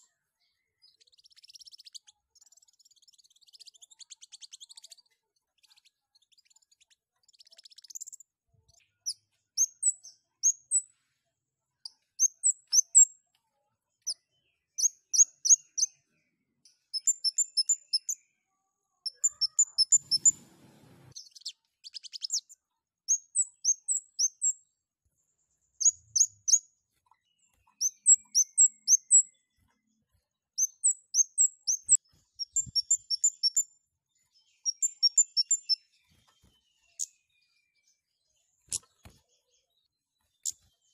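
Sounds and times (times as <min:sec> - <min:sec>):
bird high chirps: 0:00.0 - 0:10.9, 0:11.8 - 0:13.2, 0:14.0 - 0:18.4, 0:19.0 - 0:24.7, 0:25.7 - 0:29.6, 0:30.6 - 0:40.9.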